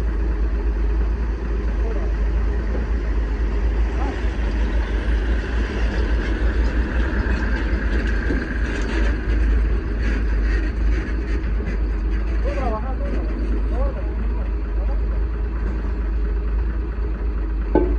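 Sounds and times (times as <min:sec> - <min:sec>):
engine rumbling: 0:00.0 - 0:17.9.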